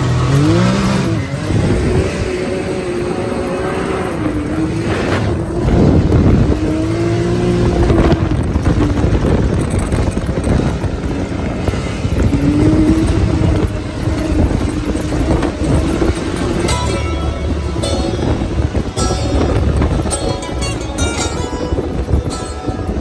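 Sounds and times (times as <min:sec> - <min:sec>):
utv engine revving: 0:00.0 - 0:23.0.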